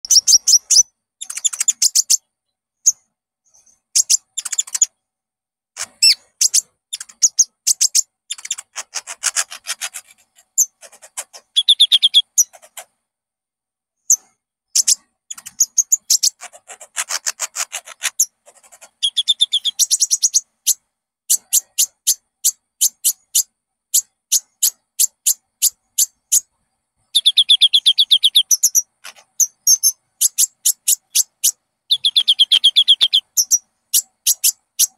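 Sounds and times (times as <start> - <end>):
sunbird high chirping song: 0.0 - 5.0, 5.8 - 12.9, 14.0 - 34.9.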